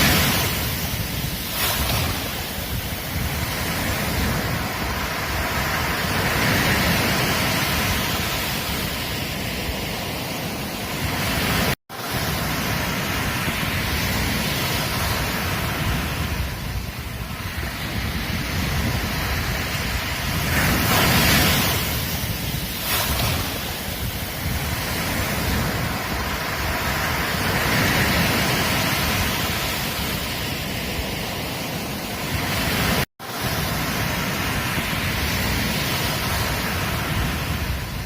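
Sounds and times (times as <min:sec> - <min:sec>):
waves breaking on a beach: 0:00.0 - 0:38.0.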